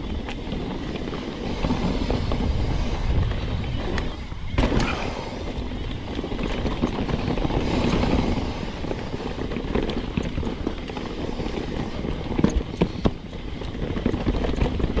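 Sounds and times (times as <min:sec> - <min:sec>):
bike clattering over bumps: 0:00.0 - 0:15.0
tyres rumbling on dirt: 0:00.0 - 0:15.0
wind buffeting microphone: 0:00.0 - 0:15.0.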